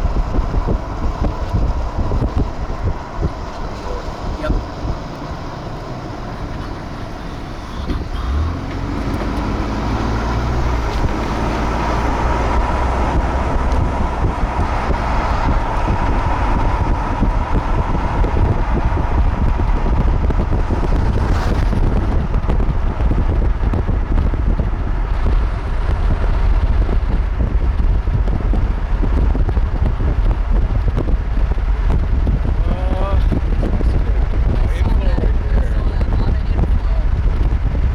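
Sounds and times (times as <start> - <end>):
moving vehicle rumble: 0.0 - 37.9
road and wind noise: 0.0 - 37.9.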